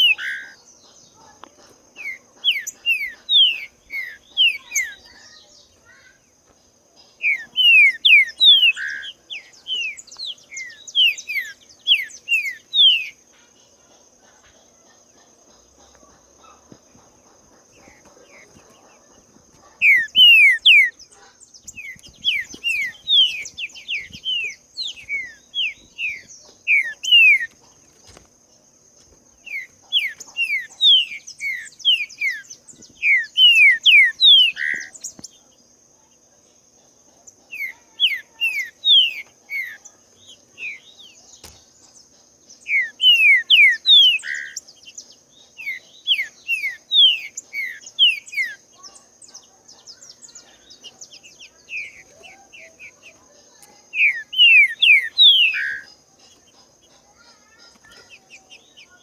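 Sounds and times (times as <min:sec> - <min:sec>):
bird whistled song: 0:00.0 - 0:01.3, 0:02.0 - 0:06.1, 0:07.1 - 0:13.2, 0:17.7 - 0:27.6, 0:29.4 - 0:35.5, 0:37.5 - 0:59.0
high insect drone: 0:00.0 - 0:59.0.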